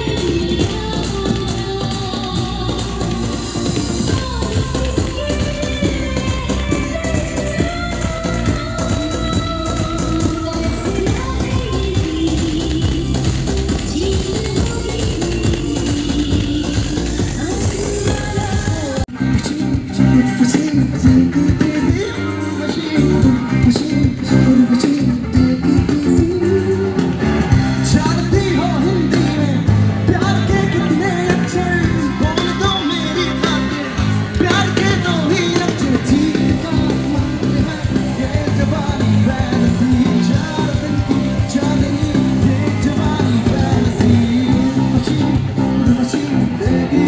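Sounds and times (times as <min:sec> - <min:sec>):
person singing: 0:00.0 - 0:47.0.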